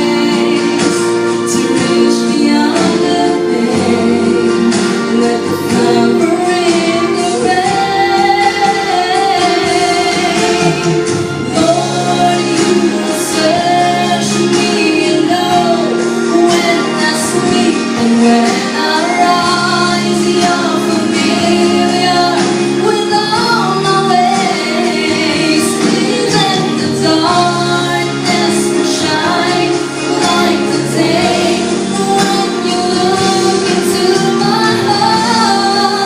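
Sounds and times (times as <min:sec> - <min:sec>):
instrumental accompaniment: 0:00.0 - 0:36.0
woman singing: 0:00.0 - 0:36.0.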